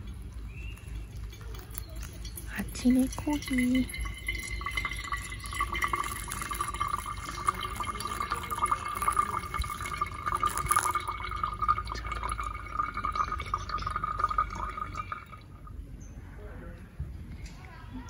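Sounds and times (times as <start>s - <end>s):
water trickling onto coffee grounds: 0.0s - 15.7s.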